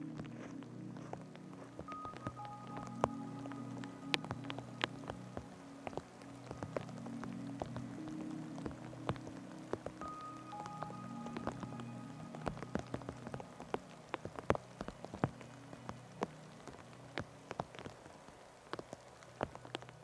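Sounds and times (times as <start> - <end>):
raindrops ticking close: 0.0 - 20.0
soft wash of rain: 0.0 - 20.0.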